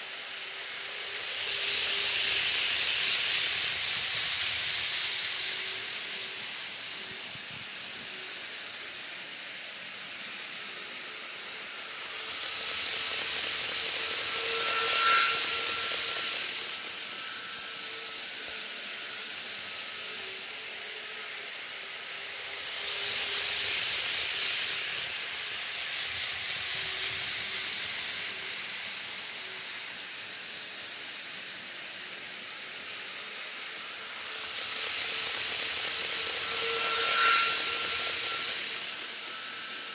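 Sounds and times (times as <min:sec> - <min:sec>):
model trains running on track: 0:00.0 - 0:07.3, 0:11.2 - 0:30.6, 0:32.6 - 0:39.9.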